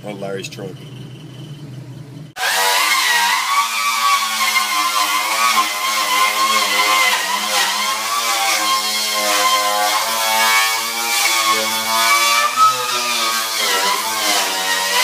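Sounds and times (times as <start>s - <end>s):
power tool motor running: 2.4s - 15.0s.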